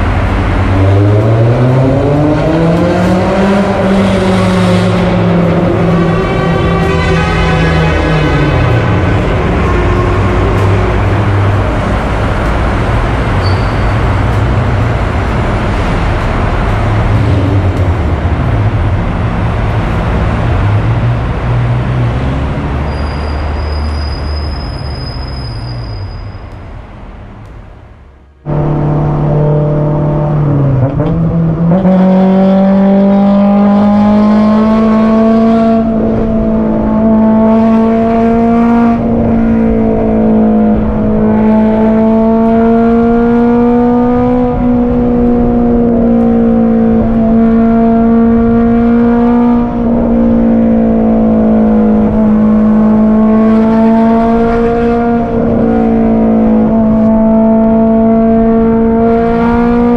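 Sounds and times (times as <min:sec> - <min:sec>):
car engine at high revs: 0:00.0 - 0:23.6, 0:28.3 - 0:59.9.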